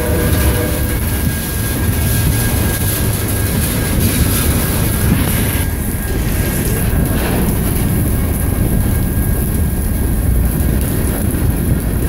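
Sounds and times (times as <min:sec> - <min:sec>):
rain hissing: 0:00.0 - 0:12.0
train wheels rumbling on rails: 0:00.0 - 0:12.0.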